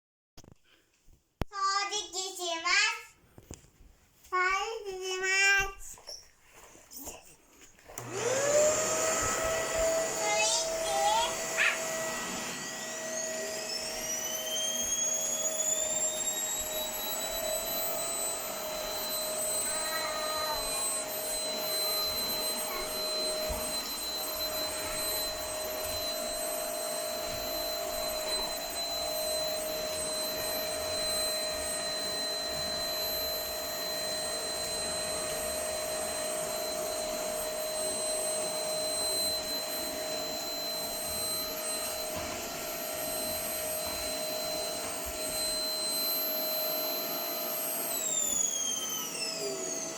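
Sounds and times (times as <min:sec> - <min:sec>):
vacuum cleaner running: 0:07.9 - 0:49.9.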